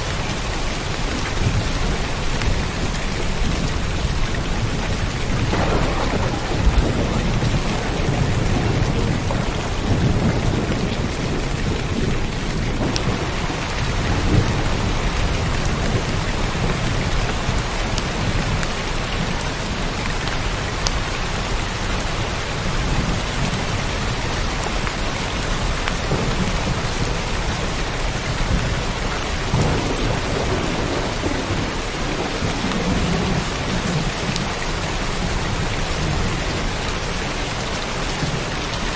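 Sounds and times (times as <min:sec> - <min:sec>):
heavy rain: 0:00.0 - 0:38.9
low rumbling thunder: 0:01.0 - 0:19.8, 0:22.7 - 0:37.0.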